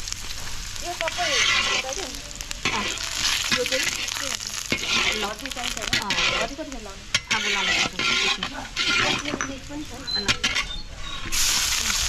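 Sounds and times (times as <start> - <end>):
food sizzling in hot oil: 0.0 - 12.0
wooden stick scraping a wok: 0.3 - 12.0.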